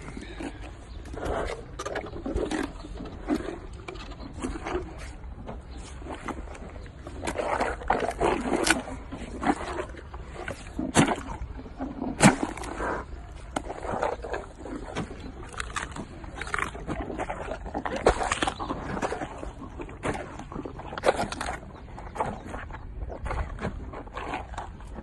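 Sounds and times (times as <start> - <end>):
hippopotamus chewing apples: 0.0 - 25.0.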